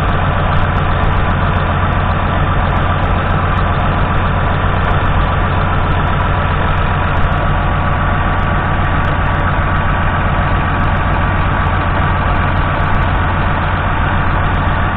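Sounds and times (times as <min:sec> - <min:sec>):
tractor diesel engine idling: 0:00.0 - 0:14.9.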